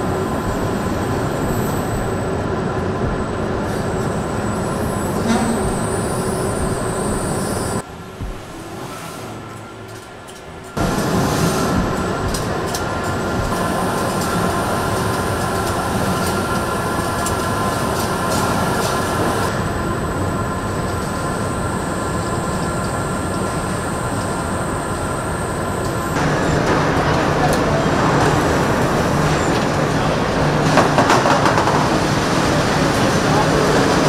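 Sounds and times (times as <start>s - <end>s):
machinery rumble: 0.0s - 34.0s.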